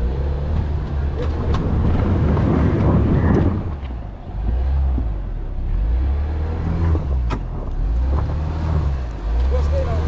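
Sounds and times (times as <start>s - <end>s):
car engine droning: 0.0s - 10.0s
tyres on dirt: 0.0s - 10.0s.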